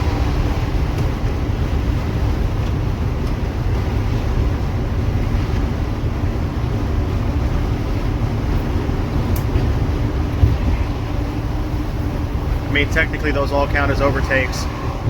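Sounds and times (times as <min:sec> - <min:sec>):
diesel engine droning: 0:00.0 - 0:15.0
road noise: 0:00.0 - 0:15.0.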